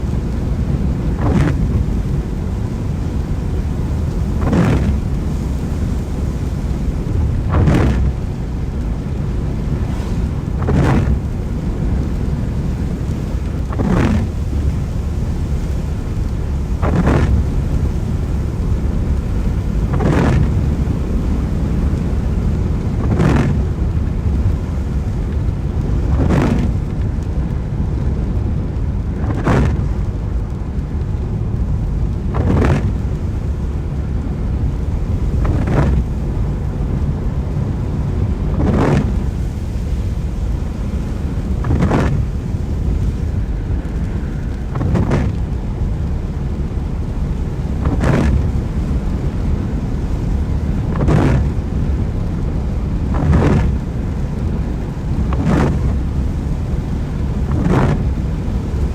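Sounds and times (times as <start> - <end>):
car road and engine rumble: 0.0 - 58.9
rain: 0.0 - 58.9
windscreen wiper sweeping: 0.0 - 58.9.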